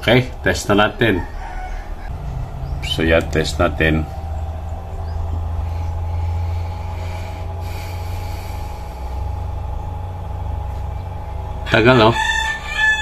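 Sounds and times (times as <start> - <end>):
faint steady tones: 0.0 - 12.1
low mechanical hum: 0.0 - 13.0.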